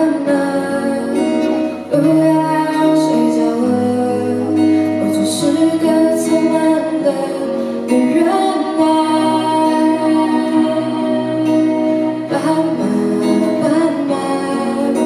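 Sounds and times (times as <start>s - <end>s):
slow ballad instrumental: 0.0s - 15.0s.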